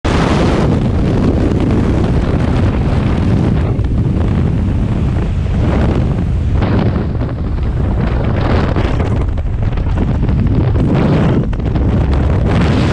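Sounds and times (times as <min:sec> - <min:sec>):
loud wind buffeting microphone: 0:00.0 - 0:12.9.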